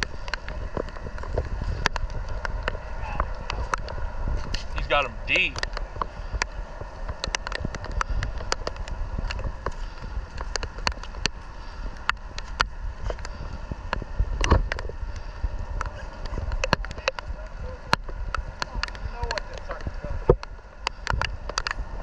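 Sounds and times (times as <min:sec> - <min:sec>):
raindrops tapping microphone: 0:00.0 - 0:22.0
wind noise rumble: 0:00.0 - 0:22.0.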